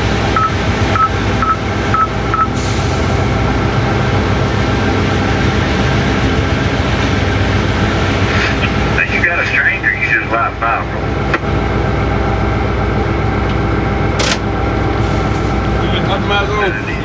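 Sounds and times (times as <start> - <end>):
diesel locomotive engine running: 0.0 - 17.0.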